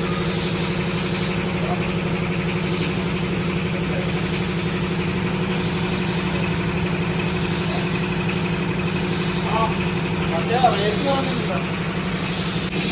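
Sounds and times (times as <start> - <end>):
motor humming: 0.0 - 12.9.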